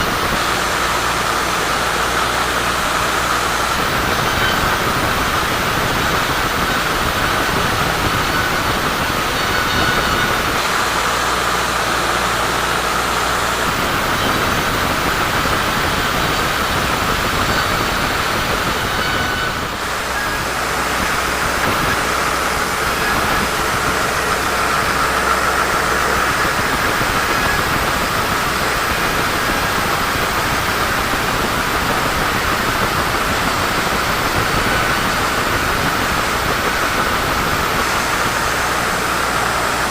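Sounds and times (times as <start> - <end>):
sawmill saw whirring through log: 0.0 - 39.9.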